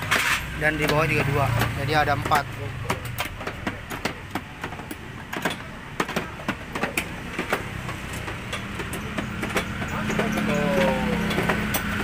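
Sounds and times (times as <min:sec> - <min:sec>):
plastic panels clicking: 0:00.2 - 0:12.0.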